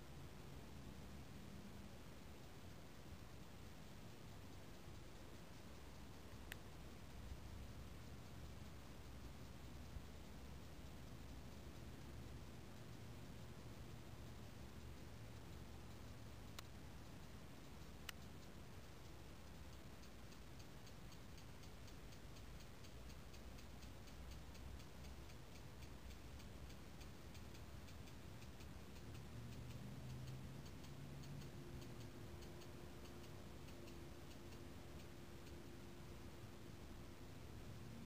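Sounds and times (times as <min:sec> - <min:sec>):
faint low hum: 0:00.0 - 0:38.0
rapid regular ticking: 0:00.0 - 0:38.0.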